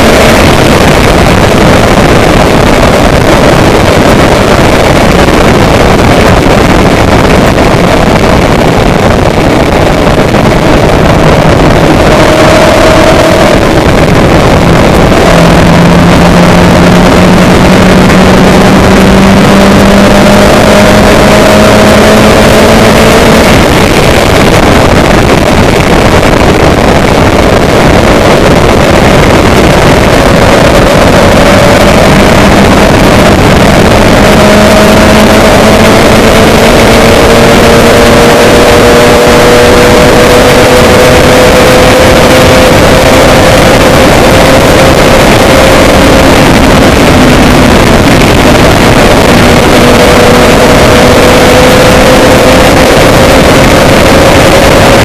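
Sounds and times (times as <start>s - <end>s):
vehicle engine running: 0.0s - 55.0s
wind and road noise: 0.0s - 55.0s.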